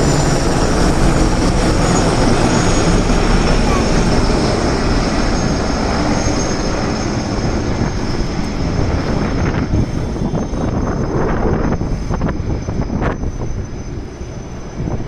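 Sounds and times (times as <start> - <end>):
helicopter engine and rotor noise: 0.0 - 15.0.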